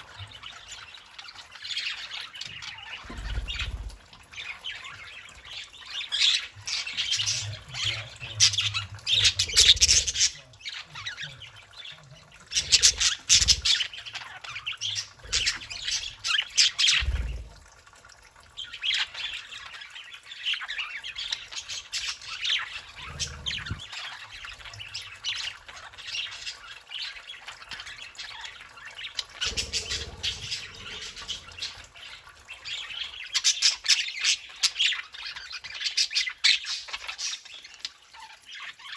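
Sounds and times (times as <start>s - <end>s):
budgerigars chattering and squawking: 0.0s - 17.6s, 18.6s - 38.9s.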